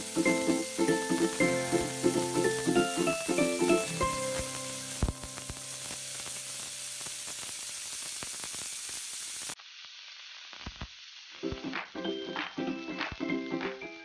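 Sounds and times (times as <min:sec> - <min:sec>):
shrimp sizzling in hot oil: 0:00.0 - 0:14.0.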